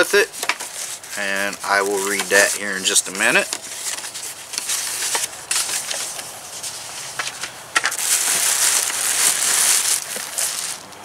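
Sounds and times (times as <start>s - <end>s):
paper packaging rustling: 0.0s - 11.0s.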